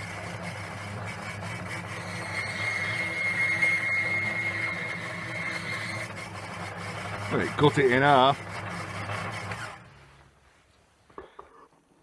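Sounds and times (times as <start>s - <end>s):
bandsaw cutting plywood: 0.0s - 9.9s.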